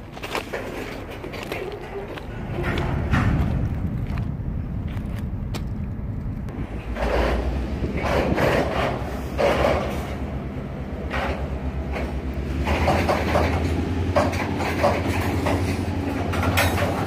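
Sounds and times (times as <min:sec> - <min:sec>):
freight train rumbling: 0:00.0 - 0:17.0
steel wheels grinding on rail: 0:00.0 - 0:17.0.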